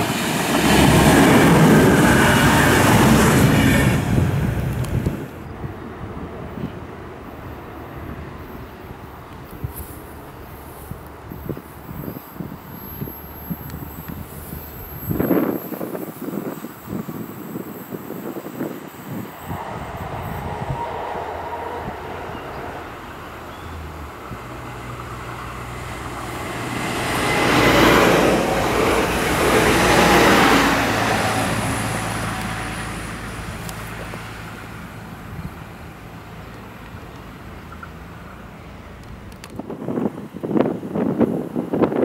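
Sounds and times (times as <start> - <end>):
train wheels on rails: 0.0 - 5.5, 7.8 - 37.8
train engines droning: 0.0 - 41.9.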